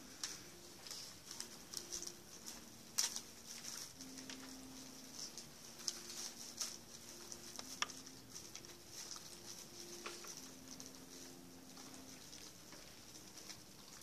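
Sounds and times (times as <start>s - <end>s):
faint held low notes: 0.0s - 14.0s
small rustles and clicks: 0.0s - 14.0s.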